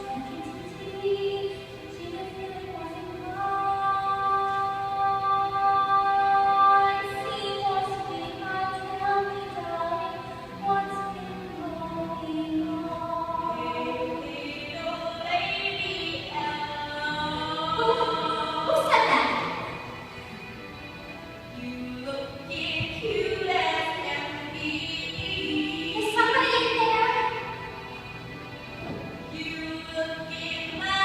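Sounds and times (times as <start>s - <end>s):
musical accompaniment: 0.0s - 31.0s.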